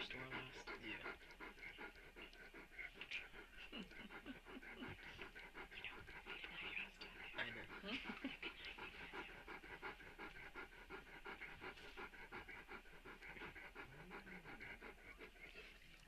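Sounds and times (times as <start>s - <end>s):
dog panting quickly: 0.0s - 16.0s.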